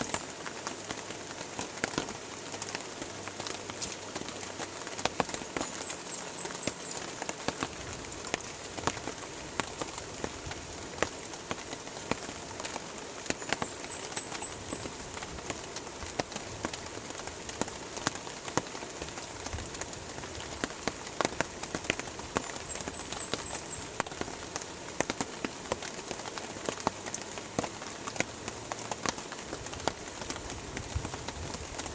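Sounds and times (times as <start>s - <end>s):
large raindrops tapping: 0.0s - 31.9s
steady rain: 0.0s - 31.9s.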